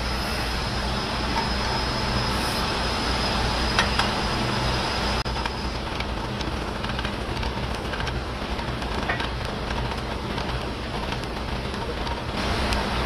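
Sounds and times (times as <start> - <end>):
industrial hum and rumble: 0.0 - 13.0.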